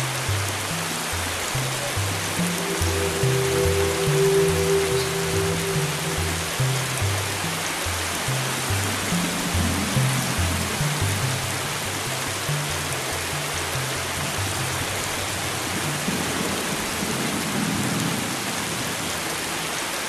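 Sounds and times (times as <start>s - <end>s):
low bass line music: 0.0s - 16.7s
rain on hard surfaces: 0.0s - 20.0s.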